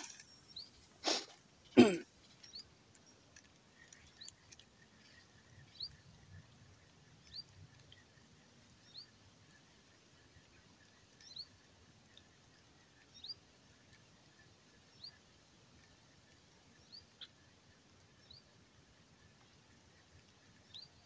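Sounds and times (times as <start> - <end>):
small bird chirping: 0.0 - 1.3, 2.1 - 21.0
faint outdoor hiss: 0.0 - 21.0.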